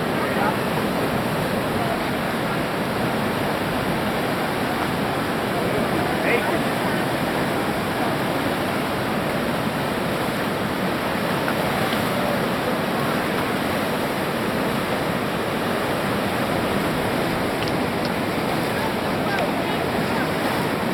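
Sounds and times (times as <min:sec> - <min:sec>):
whitewater rushing: 0:00.0 - 0:20.9.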